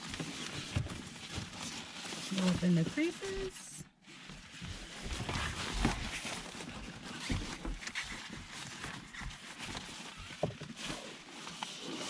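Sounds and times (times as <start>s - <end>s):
foil sunshade rustling and crinkling: 0.0s - 12.0s.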